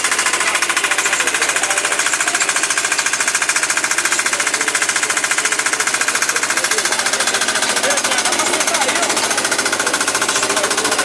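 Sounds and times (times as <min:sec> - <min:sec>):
boat motor chattering: 0:00.0 - 0:11.0.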